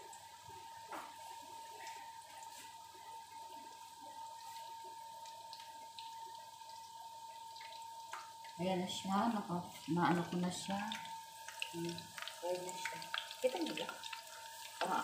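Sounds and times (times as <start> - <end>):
chicken frying in a pan: 0.0 - 15.0
thin steady whine: 0.0 - 15.0.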